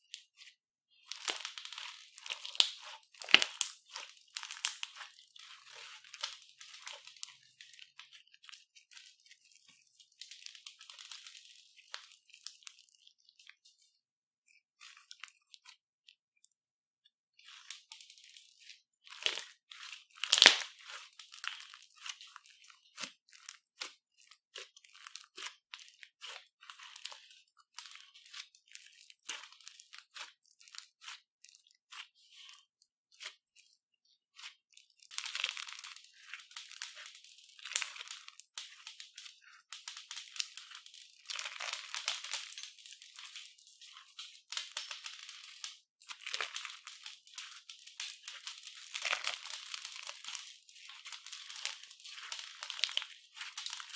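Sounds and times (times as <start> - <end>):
crunchy slime crackling and popping: 0.0 - 13.5, 17.4 - 33.7, 34.4 - 53.9.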